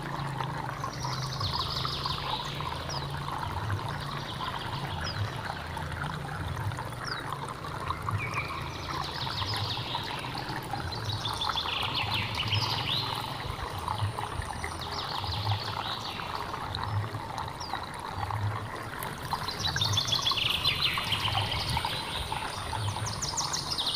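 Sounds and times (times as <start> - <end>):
stream trickling over rocks: 0.0 - 23.9
birds singing: 0.8 - 5.8, 8.1 - 23.9.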